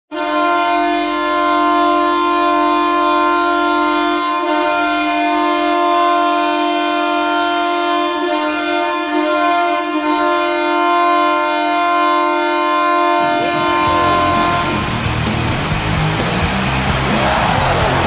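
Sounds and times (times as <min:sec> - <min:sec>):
goal horn blast: 0:00.1 - 0:18.0.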